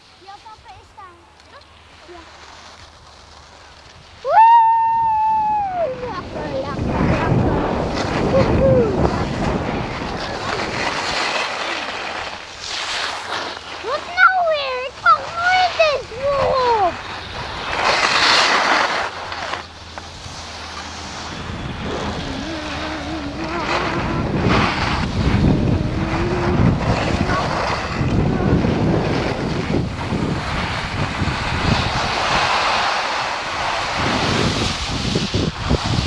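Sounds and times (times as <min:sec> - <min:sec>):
skis scraping on snow: 0:00.0 - 0:36.0
wind buffeting microphone: 0:03.9 - 0:36.0.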